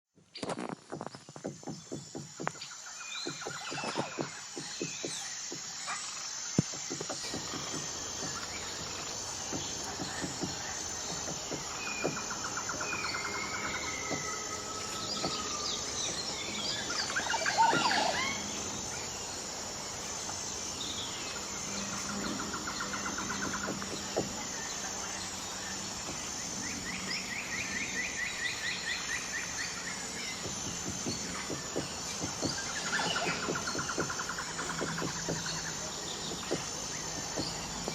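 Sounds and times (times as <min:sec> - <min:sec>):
birds calling and trilling: 0:00.2 - 0:37.9
pulsing insect drone: 0:00.2 - 0:37.9.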